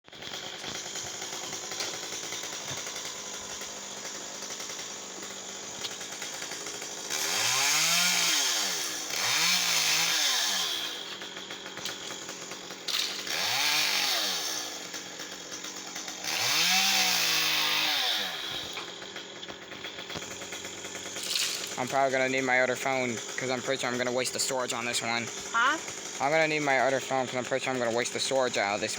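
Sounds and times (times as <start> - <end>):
chainsaw revving: 0.1 - 28.9.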